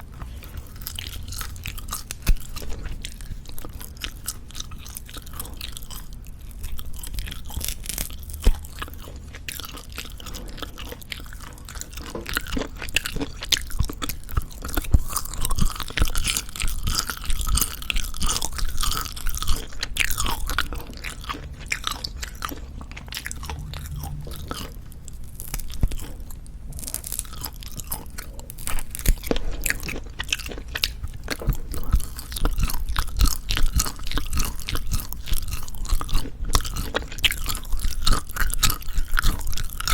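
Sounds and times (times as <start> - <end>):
chewing dried meat: 0.0 - 39.9.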